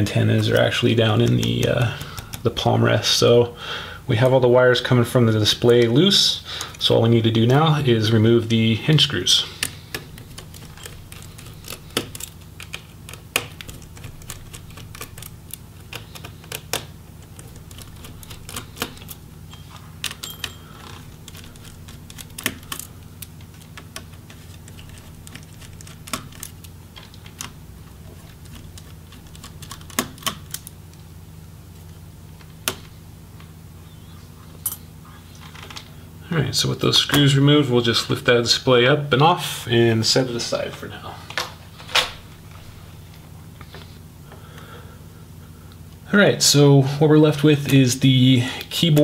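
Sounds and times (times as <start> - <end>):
faint hum: 0.0 - 49.0.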